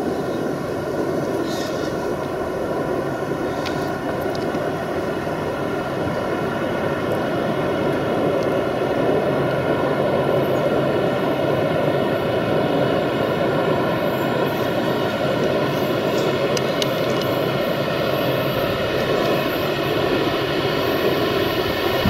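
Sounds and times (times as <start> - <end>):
locomotive whine: 0.0 - 22.0
train wheels rumbling on rail: 0.0 - 22.0.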